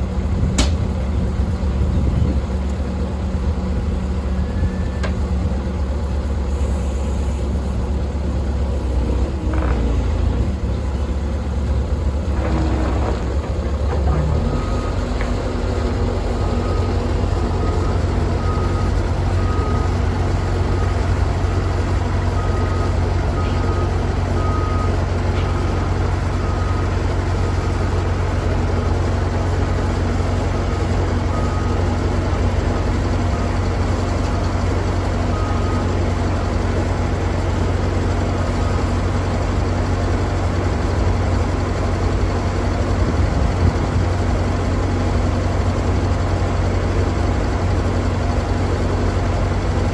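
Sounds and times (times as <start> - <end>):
loader engine running: 0.0 - 49.9.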